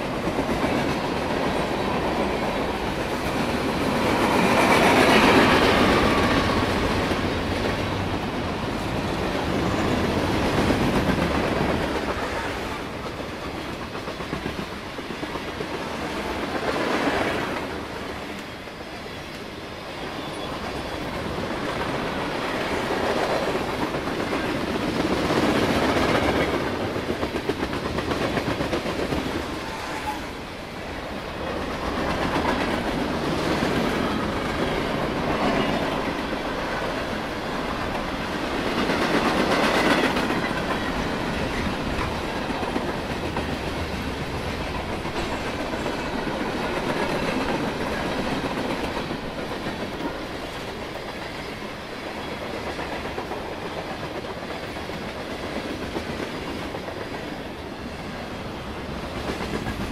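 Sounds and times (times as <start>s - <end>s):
train wheels clacking over rail joints: 0.0s - 18.6s, 20.2s - 30.4s, 31.4s - 57.7s, 59.0s - 59.9s
diesel locomotive passing: 0.0s - 59.9s.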